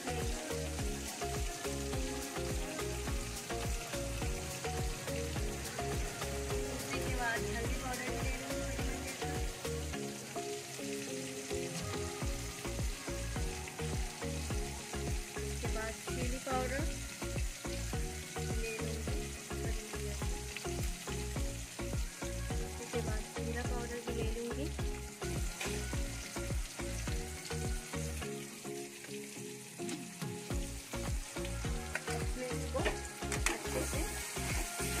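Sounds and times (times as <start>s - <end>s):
masala sizzling in hot oil: 0.0s - 35.0s.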